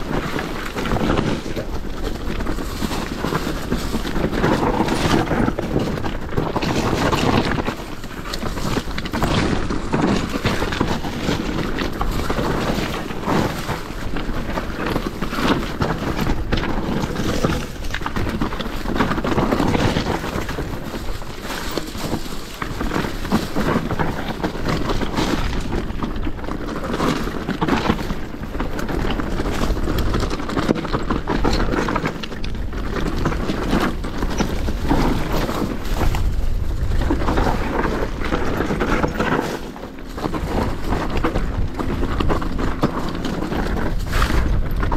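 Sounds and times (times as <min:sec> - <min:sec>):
bike knocks and rattles: 0:00.0 - 0:44.9
tyres rushing on dirt: 0:00.0 - 0:44.9.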